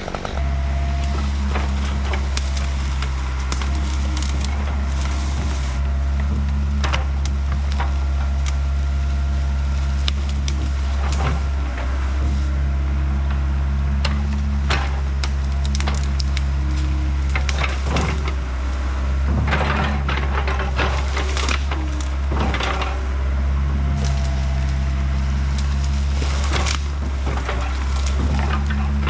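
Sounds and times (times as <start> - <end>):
excavator diesel engine running: 0.0 - 29.0
wood cracking and splintering: 0.0 - 29.0.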